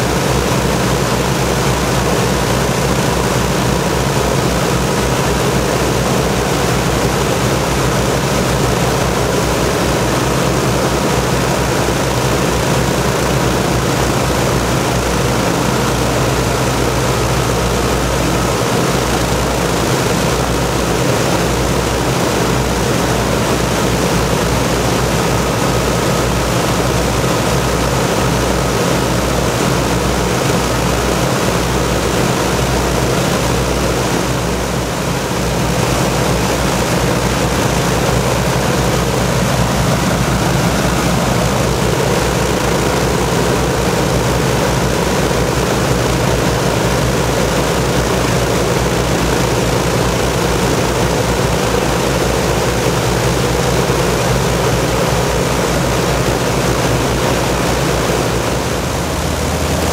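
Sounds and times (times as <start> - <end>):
piston aircraft engines running: 0.0 - 59.9.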